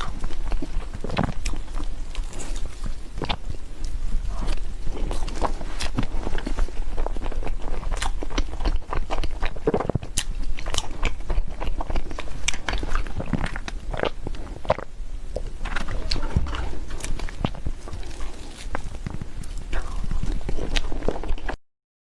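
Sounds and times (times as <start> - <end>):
person chewing: 0.0 - 21.6.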